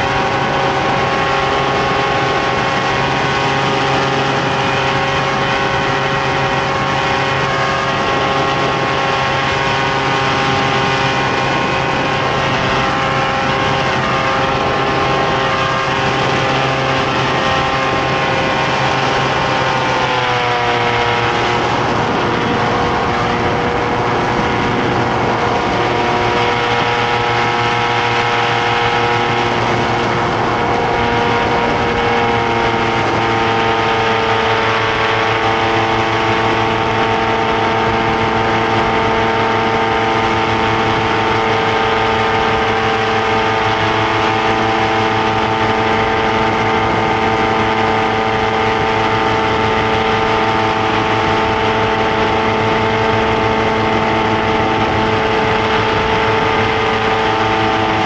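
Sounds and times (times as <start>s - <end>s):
engine and propeller drone: 0.0s - 58.0s
rush of wind noise: 0.0s - 58.0s.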